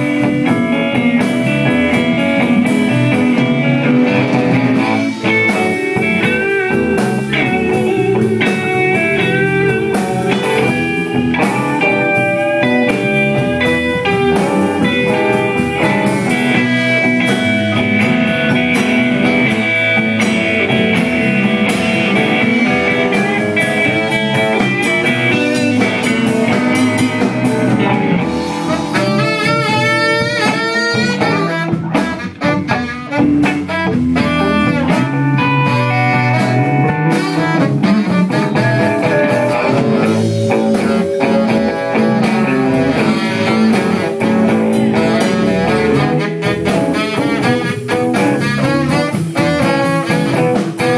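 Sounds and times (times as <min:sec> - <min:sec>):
electric guitar bending notes: 0:00.0 - 0:50.9
live blues band: 0:00.0 - 0:50.9.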